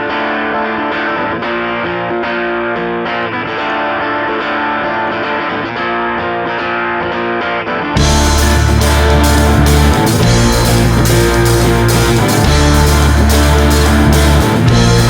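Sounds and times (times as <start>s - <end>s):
electric guitar riff: 0.0s - 15.0s.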